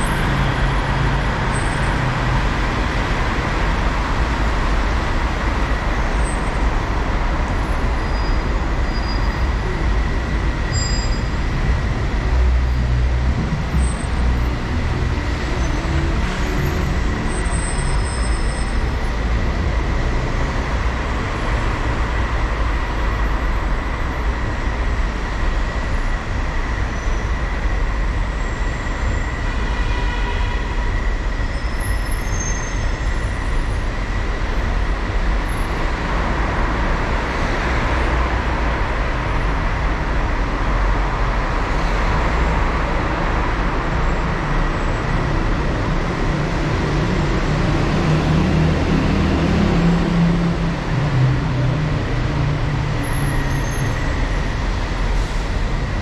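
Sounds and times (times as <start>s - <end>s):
slow traffic rumble: 0.0s - 56.0s
tyres on wet road: 0.0s - 56.0s.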